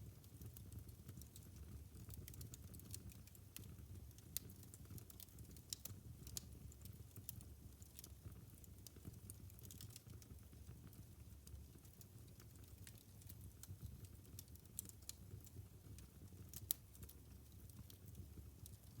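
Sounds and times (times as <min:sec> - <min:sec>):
wood fire crackling and popping: 0:00.2 - 0:19.0.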